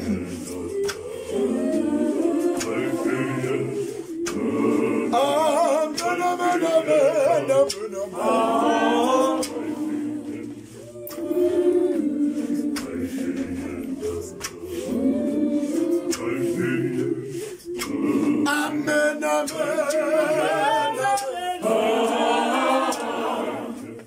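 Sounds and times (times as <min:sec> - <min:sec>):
men singing in harmony: 0:00.0 - 0:24.0.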